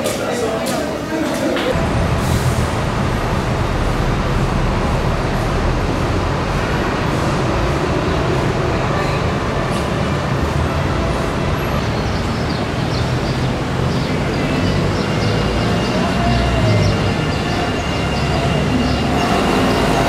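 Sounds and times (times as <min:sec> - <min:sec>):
tyres on road: 0:00.0 - 0:20.0
vehicle engines running: 0:01.5 - 0:20.0.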